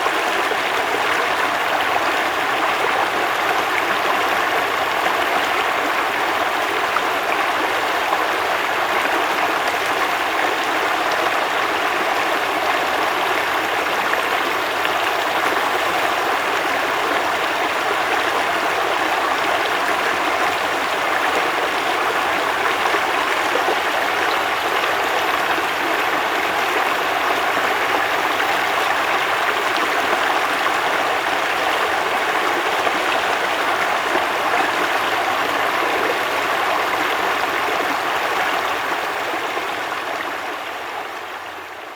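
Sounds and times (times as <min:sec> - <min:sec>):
river flowing: 0:00.0 - 0:41.9.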